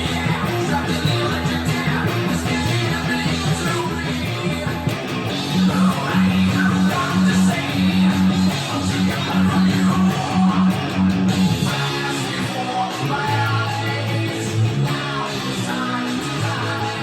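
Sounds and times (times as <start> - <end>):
electric guitar riff: 0.0 - 17.0.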